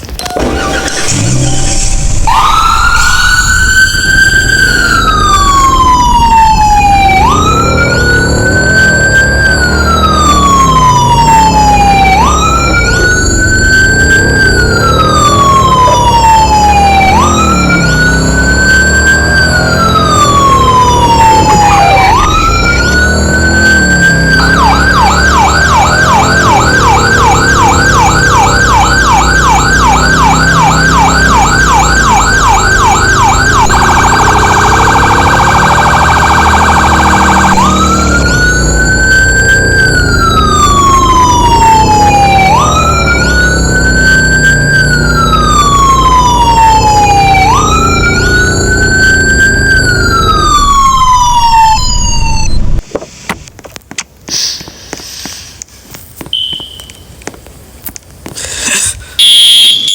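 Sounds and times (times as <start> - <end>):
fire engine electronic siren: 0.1 - 52.8, 56.3 - 57.2, 58.7 - 59.9.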